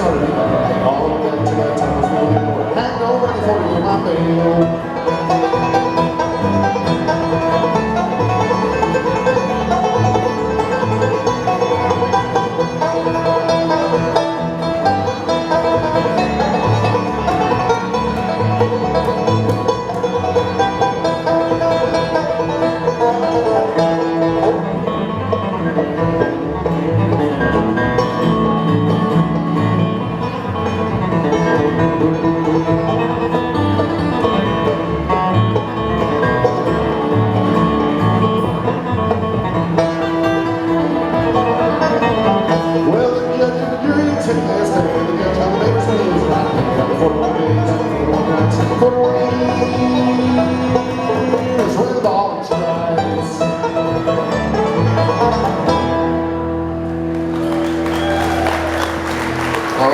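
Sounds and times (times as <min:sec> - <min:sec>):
bluegrass band playing: 0:00.0 - 0:59.9.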